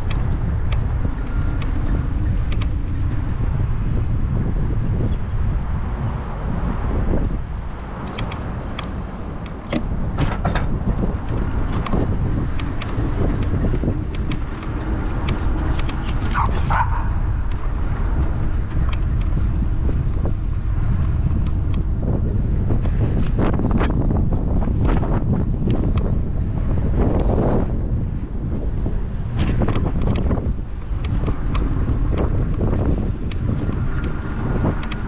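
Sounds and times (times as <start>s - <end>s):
rumble of bicycle tyres: 0.0s - 35.0s
wheels clicking on timber boardwalk: 0.0s - 35.0s
wind buffeting microphone: 0.0s - 35.0s.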